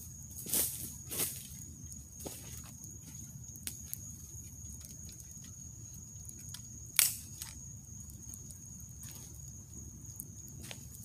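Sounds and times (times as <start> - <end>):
campfire embers crackling: 0.0 - 11.0.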